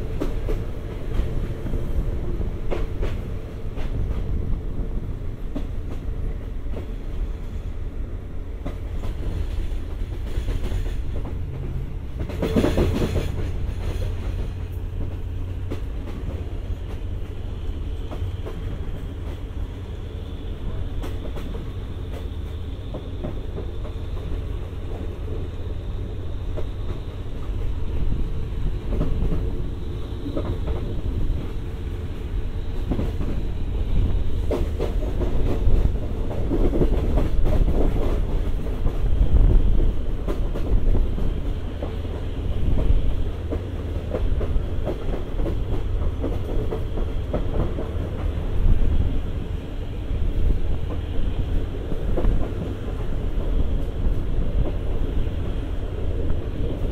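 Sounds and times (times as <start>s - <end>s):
train rumbling: 0.0s - 56.9s.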